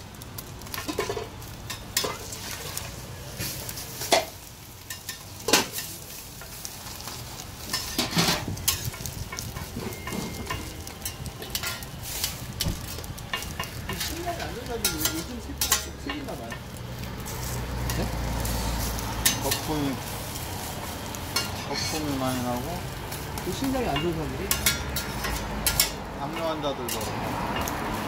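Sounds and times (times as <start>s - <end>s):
egg sizzling in oil: 0.0s - 28.0s
metal spatula scraping griddle: 0.7s - 28.0s.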